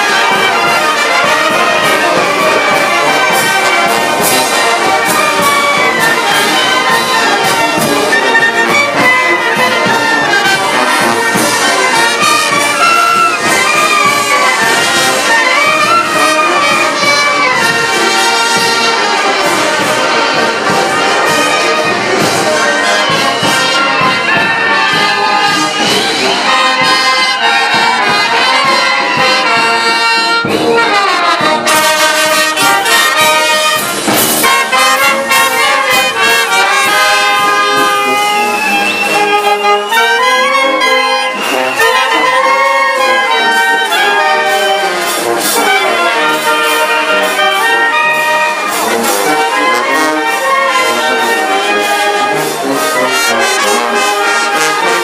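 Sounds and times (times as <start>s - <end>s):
brass band playing dance tune: 0.0s - 55.0s.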